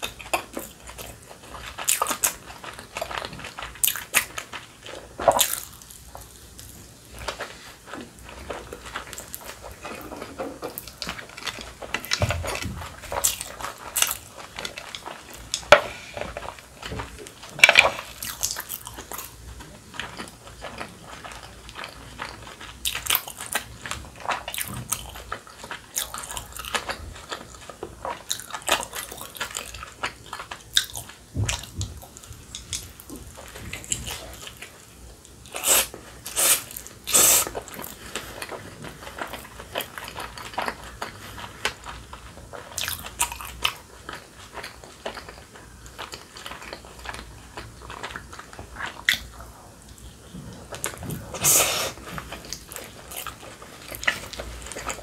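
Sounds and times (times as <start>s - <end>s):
chewing crunchy food: 0.0s - 55.0s.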